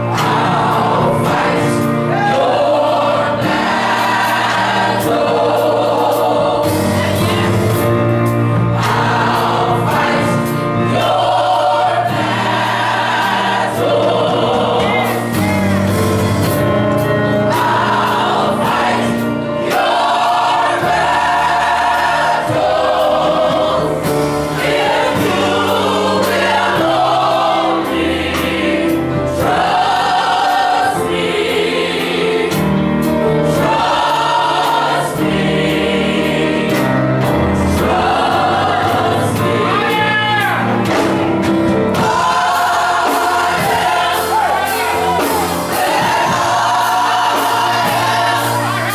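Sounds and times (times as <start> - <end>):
gospel choir singing: 0.0 - 48.9
keyboard: 0.0 - 48.9
percussion: 0.0 - 48.9.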